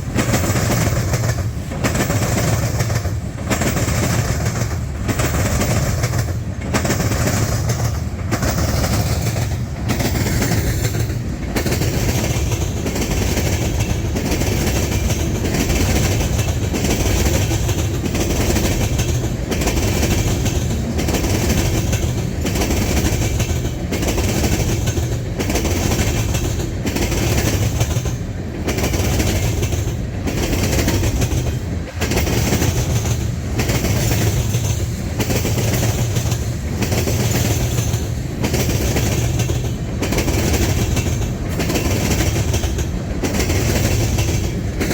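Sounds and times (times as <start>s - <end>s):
train wheels clattering over rails: 0.0s - 44.9s.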